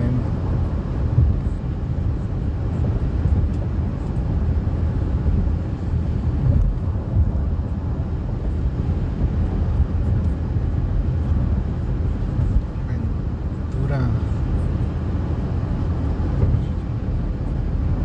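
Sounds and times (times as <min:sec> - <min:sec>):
car cruising interior rumble: 0:00.0 - 0:18.0.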